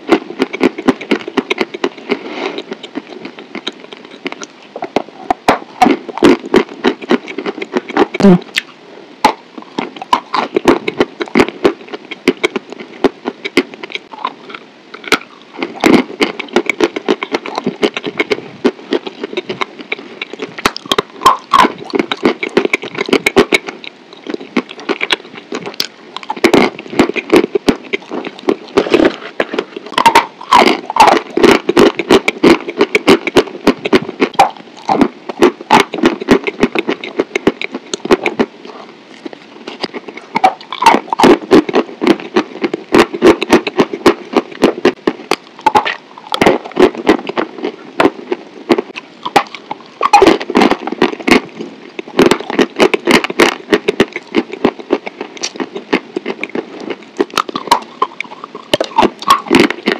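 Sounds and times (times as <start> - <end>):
chewing crunchy food: 0.0 - 59.9
wet mouth sounds: 0.0 - 59.9.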